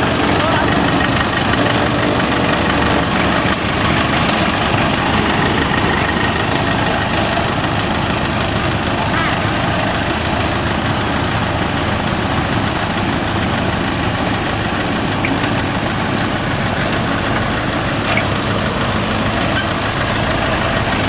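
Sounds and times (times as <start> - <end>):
diesel engine running steadily: 0.0 - 21.0.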